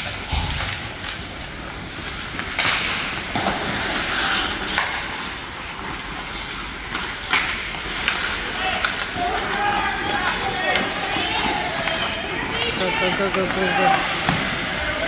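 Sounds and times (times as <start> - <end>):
skate blades scraping ice: 1.0 - 15.0.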